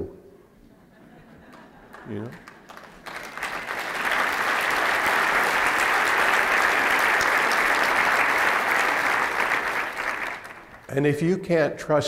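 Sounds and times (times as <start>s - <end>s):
audience applauding: 1.4s - 11.1s.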